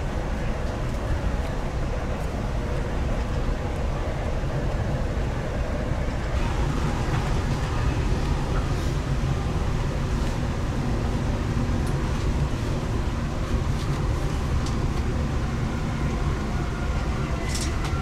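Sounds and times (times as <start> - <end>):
train rumble inside passenger car: 0.0 - 18.0.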